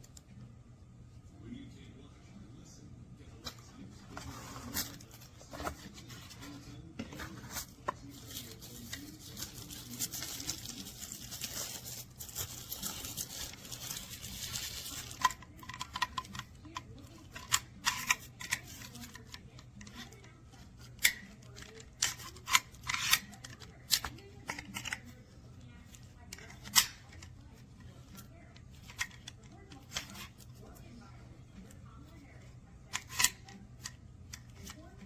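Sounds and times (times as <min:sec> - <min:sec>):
rustling: 0:03.9 - 0:35.0.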